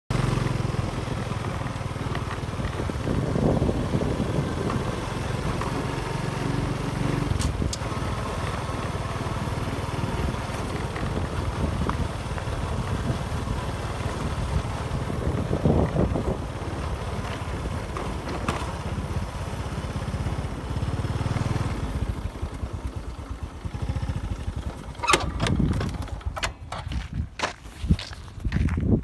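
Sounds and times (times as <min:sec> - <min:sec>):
motorcycle engine drone: 0:00.1 - 0:27.4
road noise: 0:00.1 - 0:29.0.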